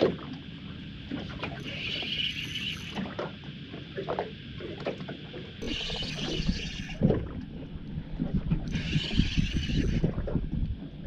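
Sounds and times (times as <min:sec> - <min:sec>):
water lapping against boat hull: 0:00.0 - 0:00.4, 0:01.0 - 0:11.0.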